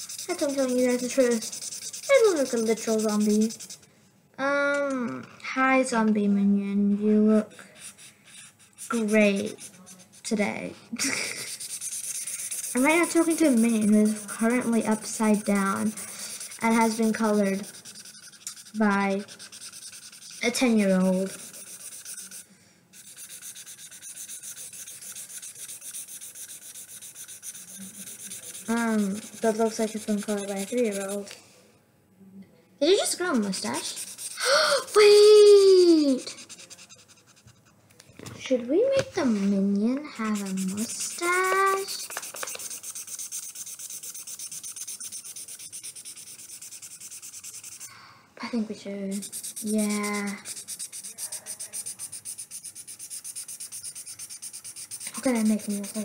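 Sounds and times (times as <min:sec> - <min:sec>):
marker scratching on paper: 0:00.0 - 0:03.9, 0:07.4 - 0:31.4, 0:32.8 - 0:37.8, 0:39.2 - 0:47.9, 0:49.1 - 0:56.0.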